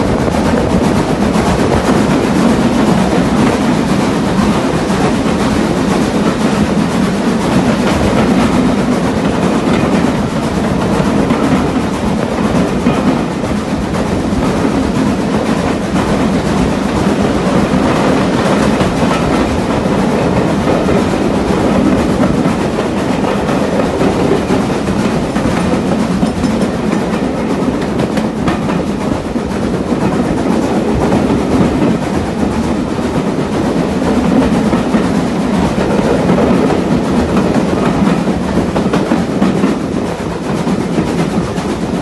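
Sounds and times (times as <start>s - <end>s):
railway carriage rumbling and rattling: 0.0s - 42.0s.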